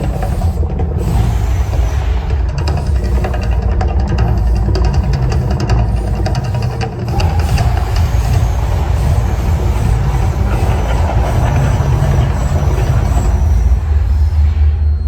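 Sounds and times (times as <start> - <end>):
deep rumble: 0.0 - 15.0
dense rushing hiss: 0.0 - 15.0.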